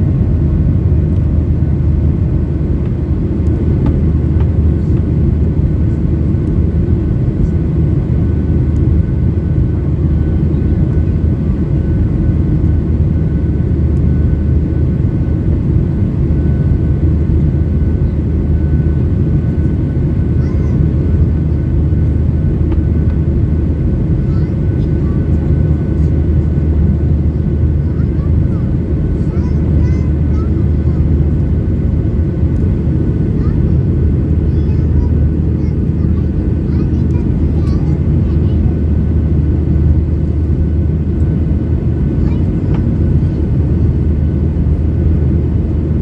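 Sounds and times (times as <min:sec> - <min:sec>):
airflow over fuselage: 0:00.0 - 0:46.0
airplane engine rumble: 0:00.0 - 0:46.0.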